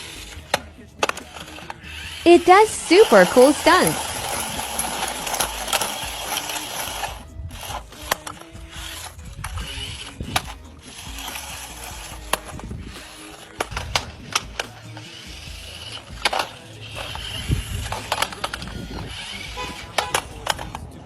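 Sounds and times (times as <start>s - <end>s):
toy car motor whirring: 0.0s - 21.0s.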